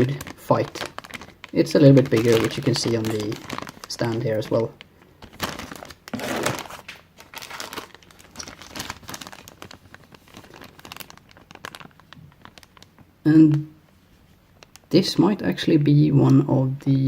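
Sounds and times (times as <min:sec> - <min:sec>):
plastic bags crinkling: 0:00.0 - 0:15.6.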